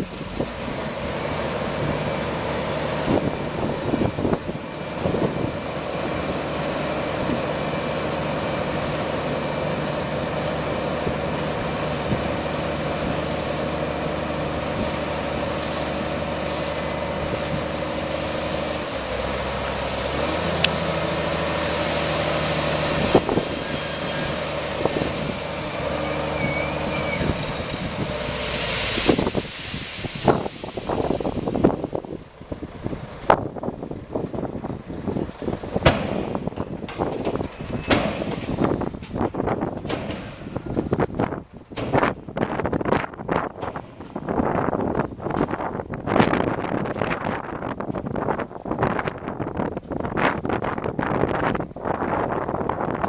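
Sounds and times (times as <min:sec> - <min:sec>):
gravel unloading: 0:00.0 - 0:45.9
truck diesel engine running: 0:00.0 - 0:53.0.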